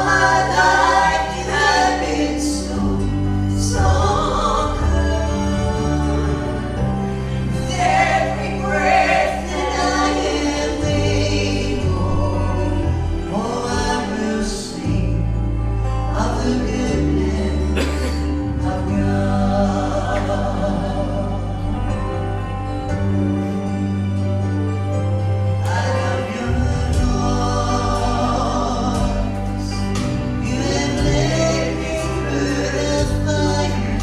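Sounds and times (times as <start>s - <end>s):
gospel group singing: 0.0s - 24.2s, 24.9s - 34.0s
held bass notes: 0.0s - 34.0s.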